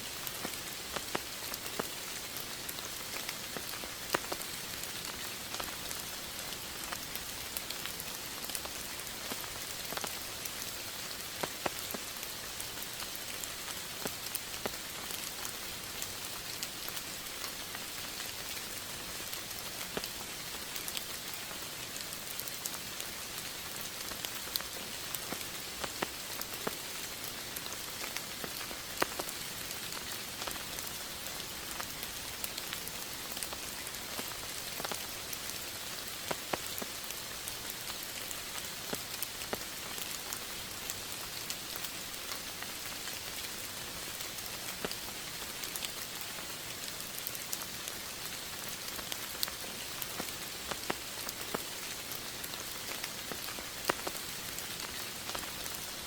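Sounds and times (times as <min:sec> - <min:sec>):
steady rain hiss: 0:00.0 - 0:56.0
raindrops ticking close by: 0:00.1 - 0:56.0.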